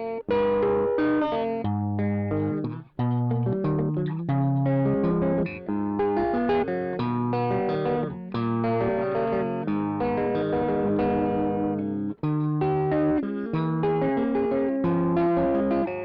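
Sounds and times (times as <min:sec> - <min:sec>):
electric guitar playing: 0:00.0 - 0:16.0.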